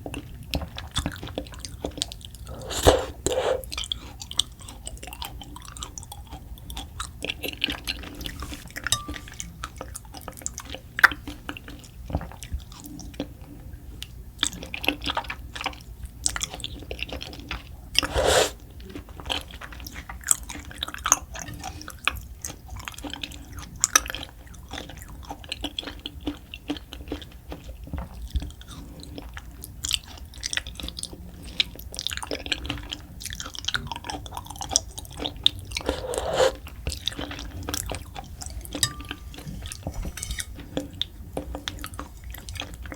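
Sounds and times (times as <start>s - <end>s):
person chewing with wet smacks: 0.0s - 42.9s.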